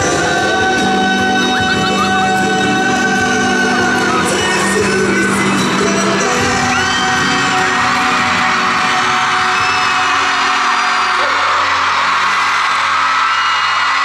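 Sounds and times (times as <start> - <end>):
man singing with live band: 0.0 - 11.6.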